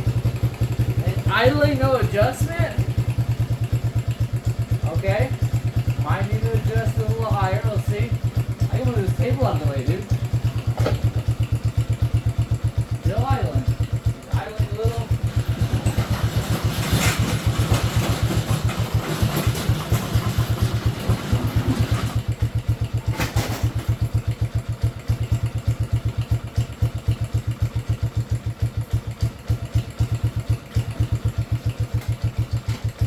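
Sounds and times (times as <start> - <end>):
small engine idling: 0.0 - 33.0.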